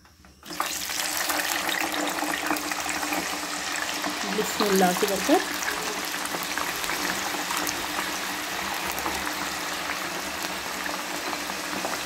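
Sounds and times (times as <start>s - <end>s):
potatoes deep-frying in oil: 0.4s - 12.0s.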